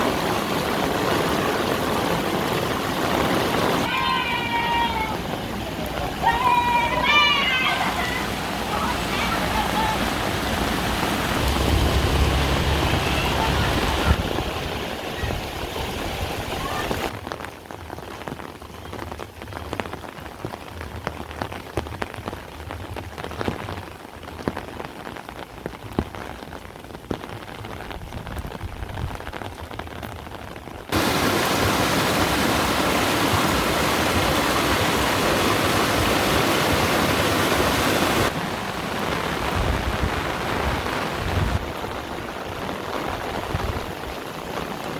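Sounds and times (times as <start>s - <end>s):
heavy downpour: 0.0s - 44.9s
rain falling: 0.0s - 44.9s.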